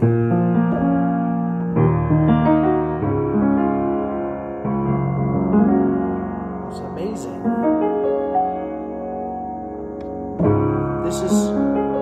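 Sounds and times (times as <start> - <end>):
piano chords ringing: 0.0 - 12.0.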